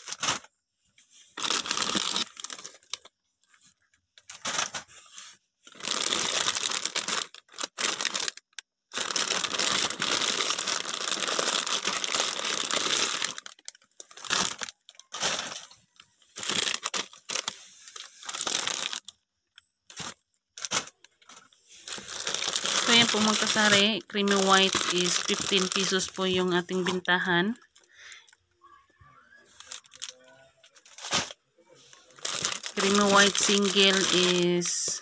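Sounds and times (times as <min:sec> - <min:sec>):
plastic wrappers crinkling: 0:00.0 - 0:28.4, 0:29.5 - 0:35.0.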